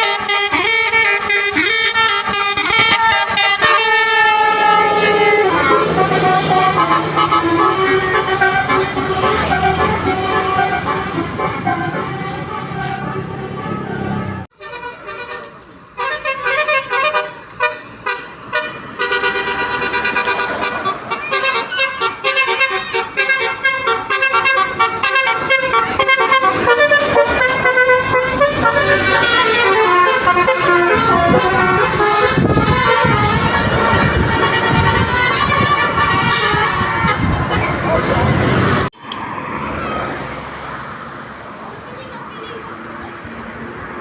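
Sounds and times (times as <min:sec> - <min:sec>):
musical vehicle horn playing tune: 0:00.0 - 0:38.9
vehicle engine and road noise: 0:00.0 - 0:44.0.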